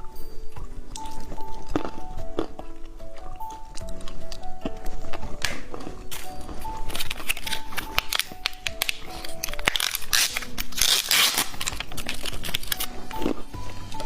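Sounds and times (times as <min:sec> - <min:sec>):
background music with light melody: 0:00.0 - 0:14.0
close-up crunching and crackling: 0:00.0 - 0:14.0.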